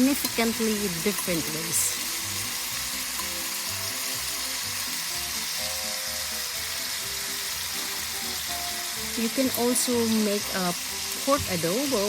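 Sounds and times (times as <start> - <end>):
chicken sizzling in hot oil: 0.0 - 12.0
quiet background music: 0.0 - 12.0.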